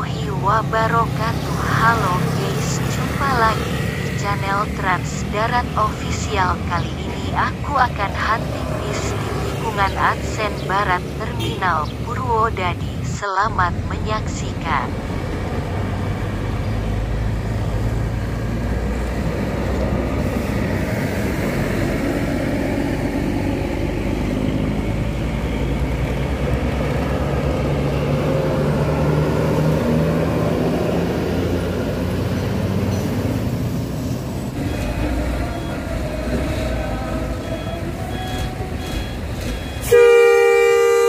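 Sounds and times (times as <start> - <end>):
bus engines running: 0.0 - 41.0.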